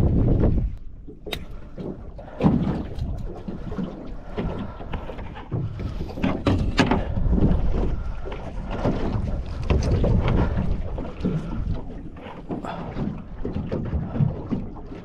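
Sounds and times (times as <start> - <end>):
water lapping against boat hull: 0.0 - 15.0
wind on microphone: 0.0 - 15.0.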